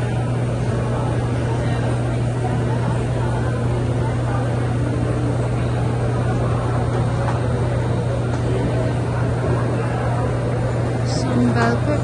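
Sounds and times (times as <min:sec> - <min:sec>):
faint murmur: 0:00.0 - 0:12.0
low mechanical hum: 0:00.0 - 0:12.0.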